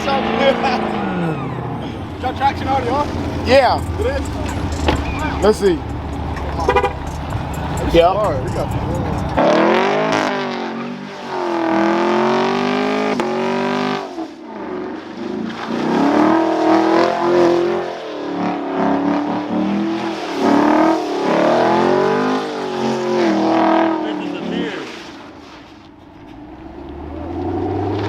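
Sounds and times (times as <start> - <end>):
car engine revving hard: 0.0 - 24.8, 26.3 - 28.0.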